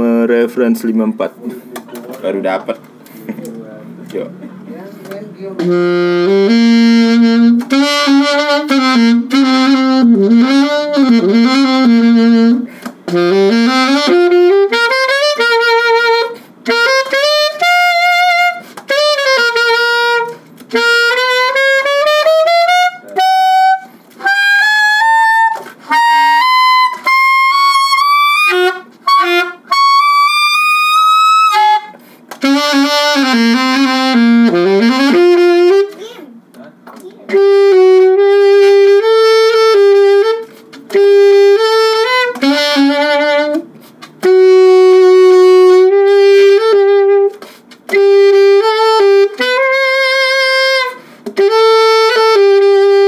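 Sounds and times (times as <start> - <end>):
saxophone solo: 5.4 - 36.1, 37.2 - 53.0.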